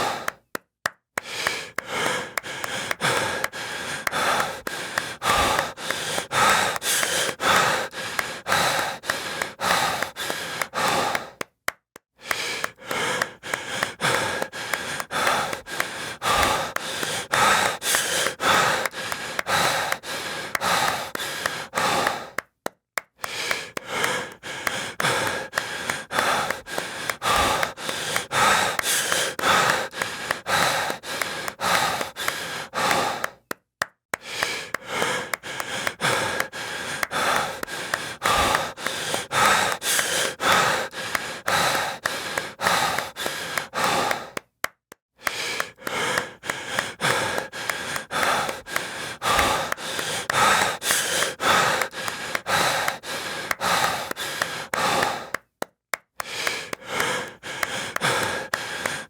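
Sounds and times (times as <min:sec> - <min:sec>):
heavy breathing: 0:00.0 - 0:00.6, 0:01.2 - 0:11.5, 0:12.2 - 0:22.6, 0:23.2 - 0:44.5, 0:45.2 - 0:55.5, 0:56.2 - 0:59.0
rapid sharp claps: 0:00.0 - 0:59.0.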